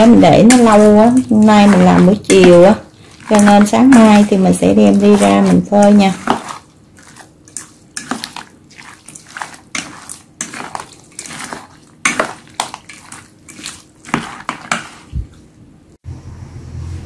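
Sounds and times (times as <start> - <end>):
metal tongs scraping bowl: 0.0 - 15.1
wet squishing of shrimp: 0.6 - 15.0.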